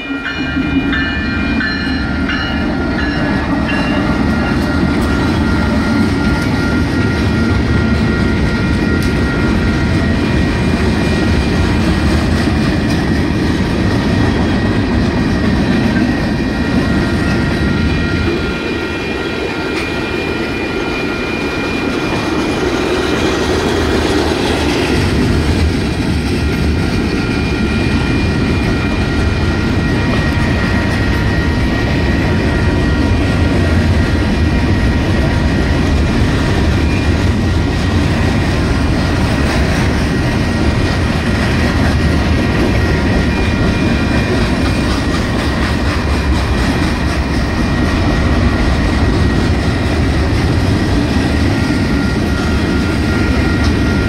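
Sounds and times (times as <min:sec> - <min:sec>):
crossing bells ringing: 0:00.0 - 0:12.0, 0:13.1 - 0:26.0, 0:26.6 - 0:49.4
diesel locomotives rumbling: 0:00.0 - 0:54.0
wheels clacking on rails: 0:00.0 - 0:54.0.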